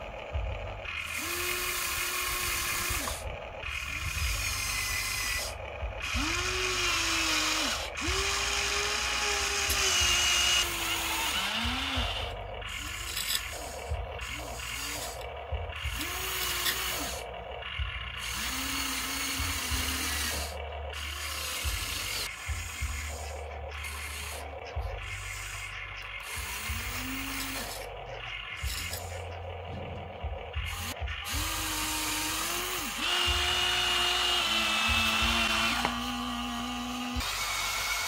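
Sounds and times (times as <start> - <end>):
toy excavator motors whirring: 0.0 - 38.0.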